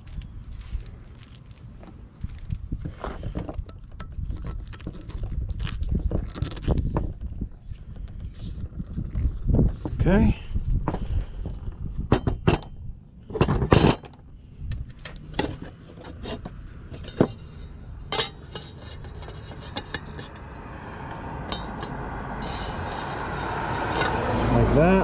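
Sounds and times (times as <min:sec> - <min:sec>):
metal clinks and knocks: 0:00.0 - 0:09.2, 0:10.4 - 0:24.6
vehicle noise: 0:00.0 - 0:25.0.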